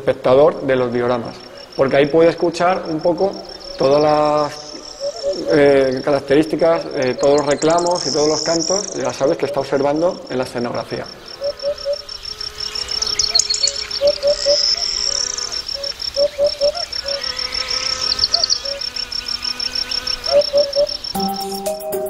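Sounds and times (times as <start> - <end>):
cricket chirping: 0.0 - 22.0
birds twittering: 0.8 - 21.2.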